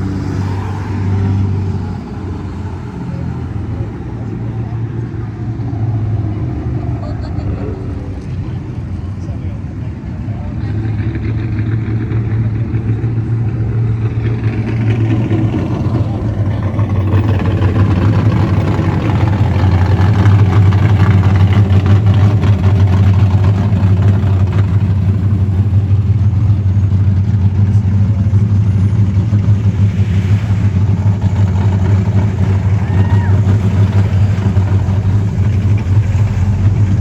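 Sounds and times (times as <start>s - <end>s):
car engines and exhausts rumbling: 0.0s - 37.0s.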